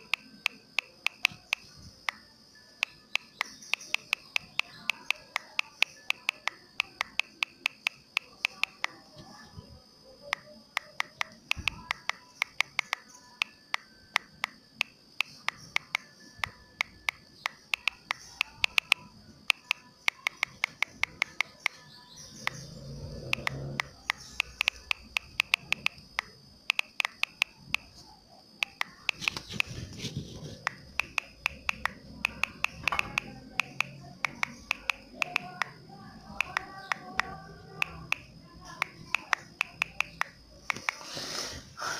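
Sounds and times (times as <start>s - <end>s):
fingers tapping phone touchscreen: 0.0s - 2.2s, 2.8s - 9.0s, 10.3s - 21.8s, 23.2s - 27.9s, 28.6s - 41.0s.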